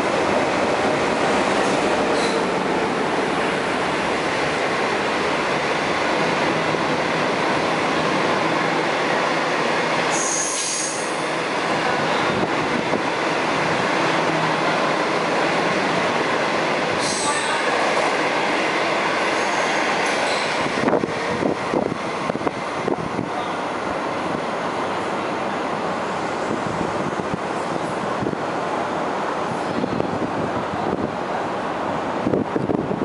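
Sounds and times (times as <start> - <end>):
train wheels rolling on rail: 0.0 - 33.0.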